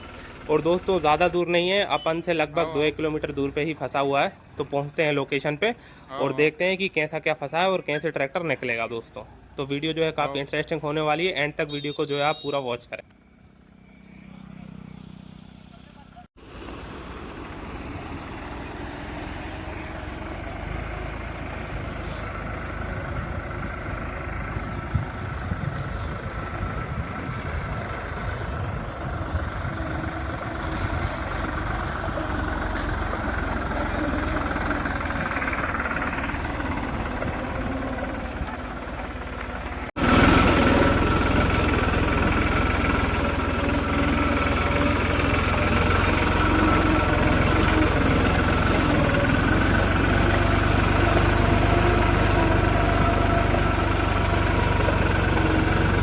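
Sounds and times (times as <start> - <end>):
tractor diesel engine running: 0.0 - 8.3, 13.1 - 56.0.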